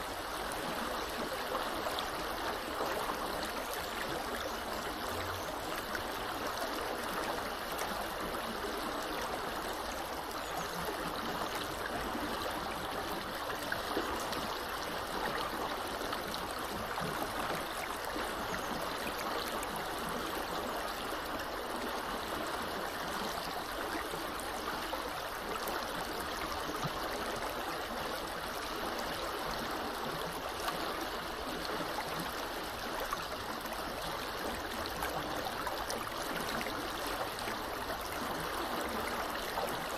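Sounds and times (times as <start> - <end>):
river flowing over shallows: 0.0 - 39.9.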